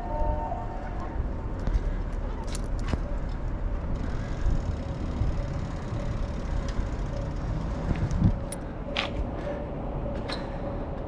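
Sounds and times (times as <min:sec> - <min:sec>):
wind rumble on microphone: 0:00.0 - 0:11.0
bicycle rolling over steel bridge: 0:01.2 - 0:11.0.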